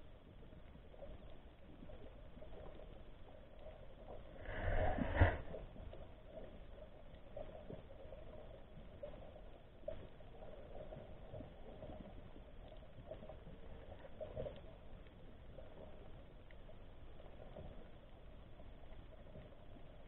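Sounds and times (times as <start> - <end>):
low underwater hum: 0.0 - 20.0
soft clicks and crackles: 0.0 - 20.0.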